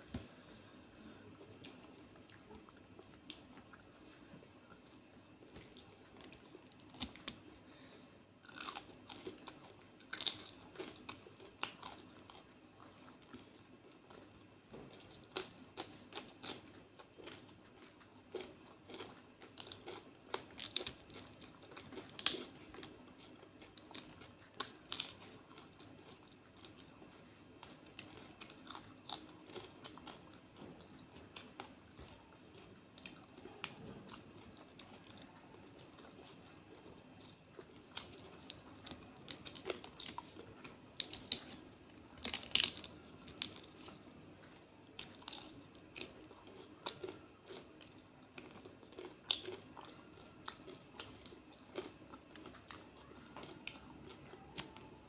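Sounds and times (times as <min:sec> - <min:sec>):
person chewing and crunching: 0:00.0 - 0:55.0.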